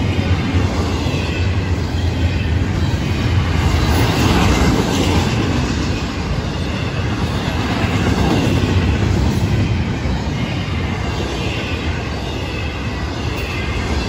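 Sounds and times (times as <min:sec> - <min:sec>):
steel wheels on rail: 0:00.0 - 0:14.0.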